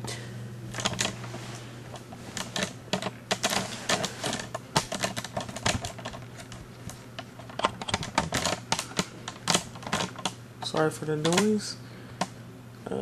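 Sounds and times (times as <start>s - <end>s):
steady low hum: 0.0s - 13.0s
clicks and rustles of handling: 0.7s - 11.6s.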